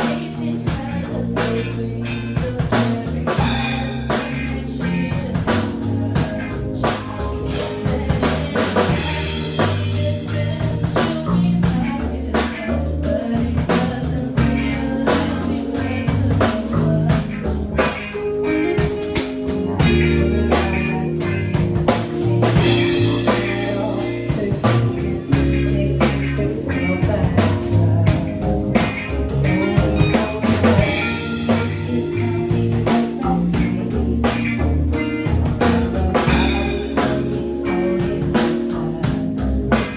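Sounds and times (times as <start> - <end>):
band music: 0.0 - 39.9
person singing: 0.0 - 39.9.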